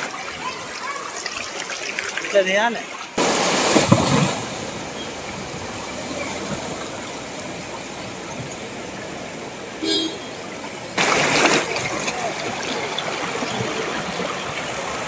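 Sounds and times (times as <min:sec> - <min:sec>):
car tyres churning water: 0:00.0 - 0:15.0
floodwater rushing along road: 0:00.0 - 0:15.0.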